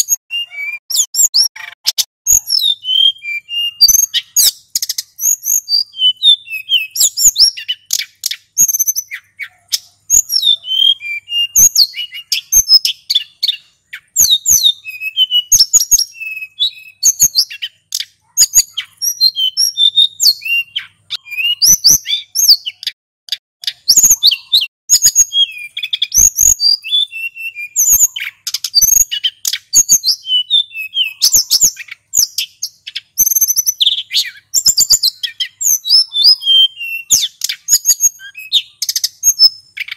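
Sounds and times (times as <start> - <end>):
bird singing whistled phrases: 0.0 - 23.0, 23.6 - 39.9.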